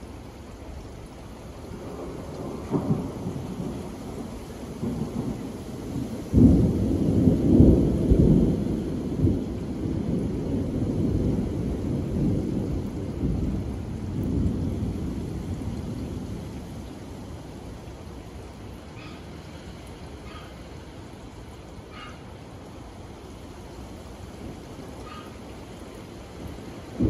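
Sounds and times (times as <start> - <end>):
steady rain: 0.0 - 27.0
thunder rumbling: 1.7 - 20.5, 24.2 - 27.0.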